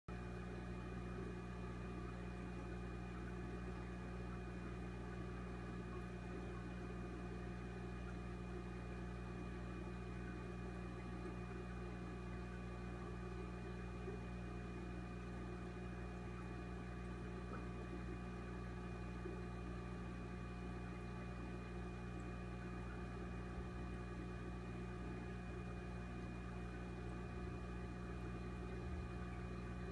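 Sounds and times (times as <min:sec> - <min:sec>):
aquarium equipment humming: 0:00.1 - 0:29.9.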